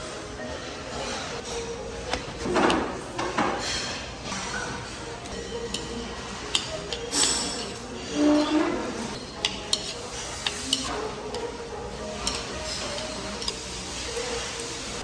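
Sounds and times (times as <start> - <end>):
dishes and cutlery clinking: 0.1 - 15.0.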